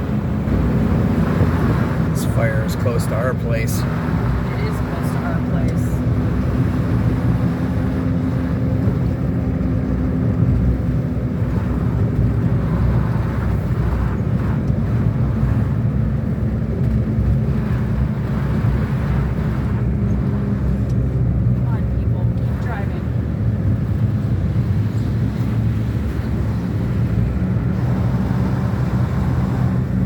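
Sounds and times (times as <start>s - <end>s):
car engine running: 0.0s - 30.0s
road noise inside car: 0.0s - 30.0s.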